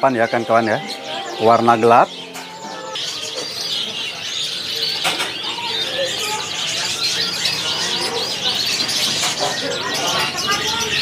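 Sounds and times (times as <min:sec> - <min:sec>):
canaries singing: 0:00.0 - 0:11.0.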